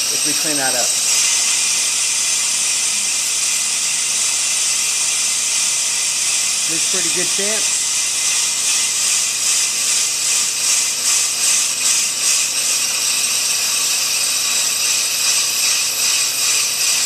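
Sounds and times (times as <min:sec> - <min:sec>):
brake lathe running: 0:00.0 - 0:17.0
cutting bits hissing on rotor: 0:00.0 - 0:17.0.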